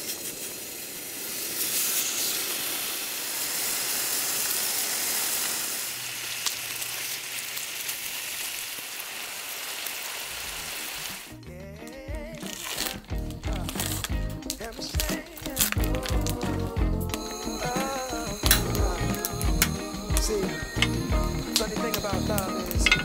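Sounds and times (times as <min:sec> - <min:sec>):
meat sizzling in a pan: 0:00.0 - 0:11.4, 0:12.4 - 0:23.0.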